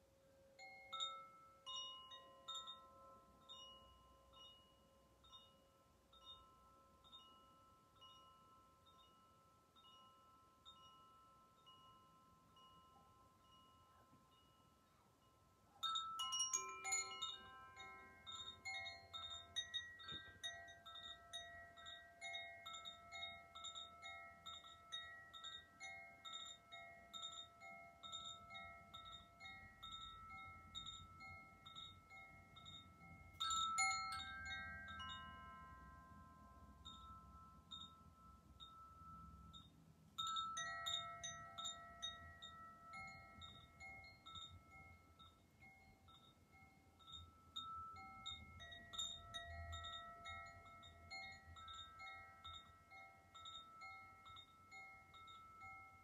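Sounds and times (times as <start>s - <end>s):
metal chimes ringing: 0.6s - 56.0s.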